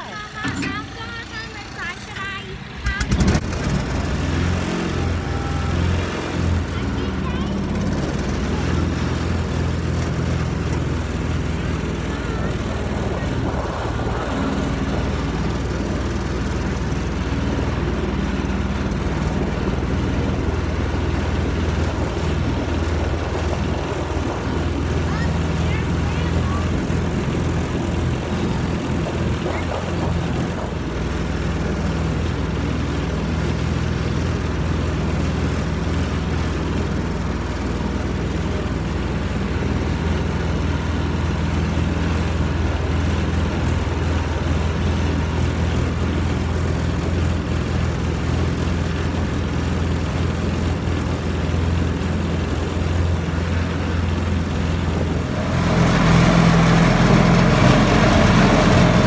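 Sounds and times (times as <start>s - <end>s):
small engine droning: 0.0s - 59.0s.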